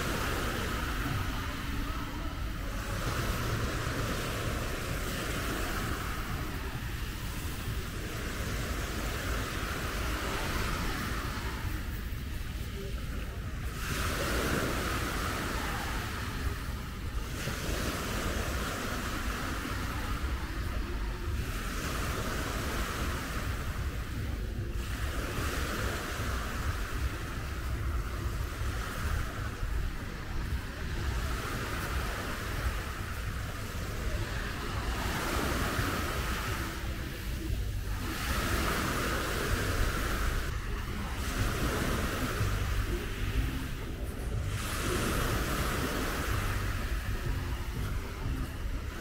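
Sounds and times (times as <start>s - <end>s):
waves washing onto beach: 0.0s - 49.0s
wind on microphone: 0.0s - 49.0s.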